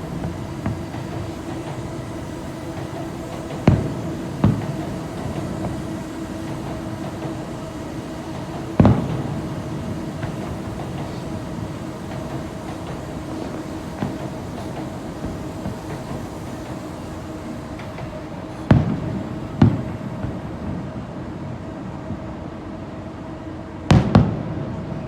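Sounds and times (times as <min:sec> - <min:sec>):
fireworks booming with echo: 0:00.0 - 0:16.8, 0:17.8 - 0:20.8, 0:23.9 - 0:25.0.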